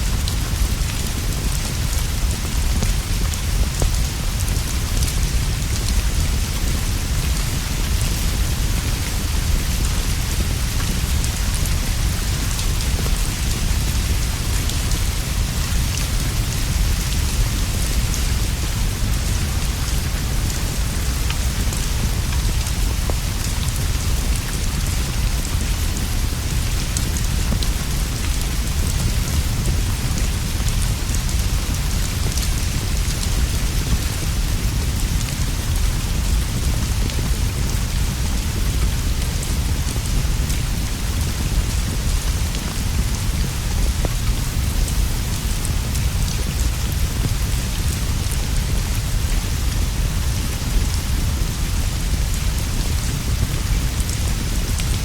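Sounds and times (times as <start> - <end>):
heavy rain on leaves and roof: 0.0 - 55.0.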